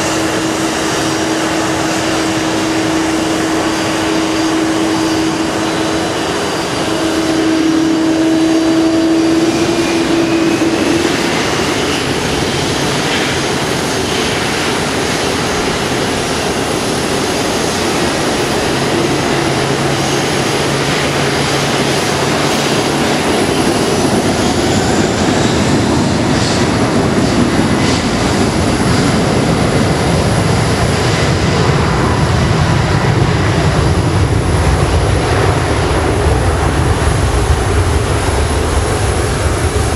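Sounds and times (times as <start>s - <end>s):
jet engine rushing noise in cabin: 0.0s - 39.9s.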